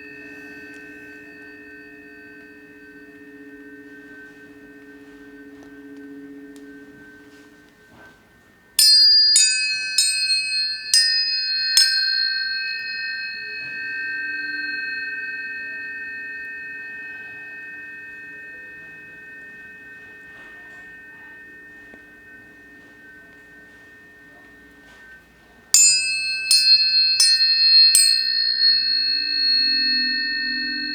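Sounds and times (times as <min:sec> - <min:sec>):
low steady hum: 0:00.0 - 0:30.9
tuning forks ringing: 0:00.0 - 0:30.9.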